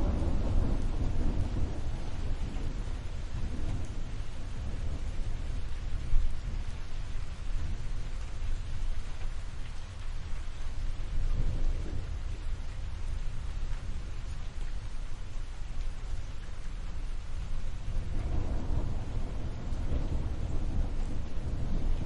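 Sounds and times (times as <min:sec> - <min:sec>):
rolling thunder: 0:00.0 - 0:08.4, 0:11.0 - 0:15.2, 0:16.8 - 0:22.0
steady rain: 0:00.0 - 0:22.0.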